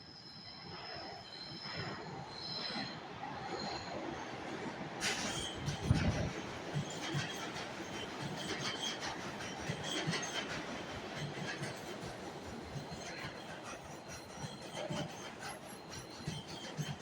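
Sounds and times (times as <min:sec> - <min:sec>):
subway train wheels clattering: 0:00.6 - 0:17.0.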